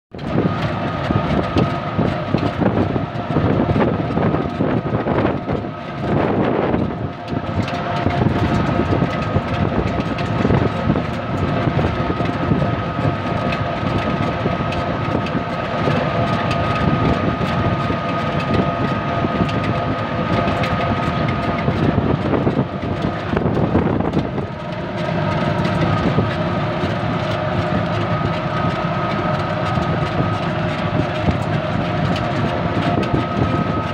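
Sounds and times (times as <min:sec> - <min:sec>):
auto-rickshaw motor whine: 0:00.1 - 0:33.9
road and wind noise: 0:00.1 - 0:33.9.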